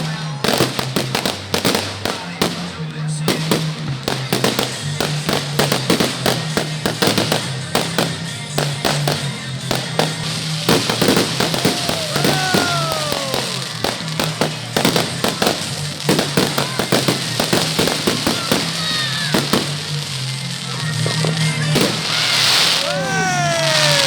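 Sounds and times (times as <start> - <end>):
fireworks banging and crackling: 0.0 - 24.0.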